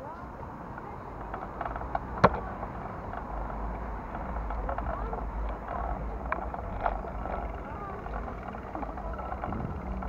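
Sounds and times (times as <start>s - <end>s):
distant people talking: 0.0s - 10.0s
street traffic rumble: 0.0s - 10.0s.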